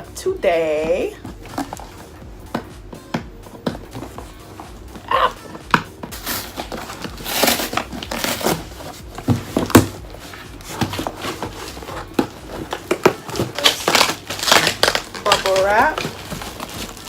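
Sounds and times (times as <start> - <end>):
plastic and bubble wrap crinkling: 1.0 - 17.0.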